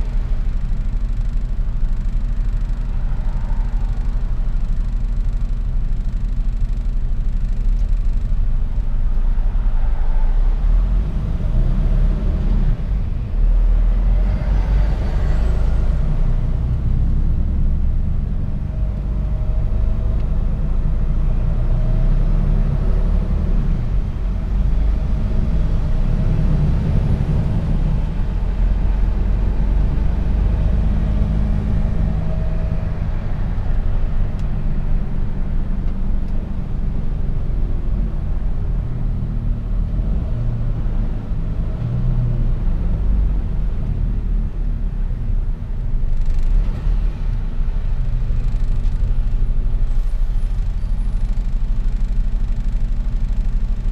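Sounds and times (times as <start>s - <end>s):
truck engine and road noise: 0.0s - 53.9s.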